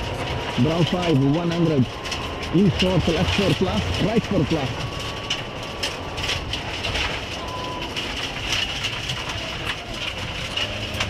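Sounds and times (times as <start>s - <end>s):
car engine running hard: 0.0s - 11.0s
road noise: 0.0s - 11.0s.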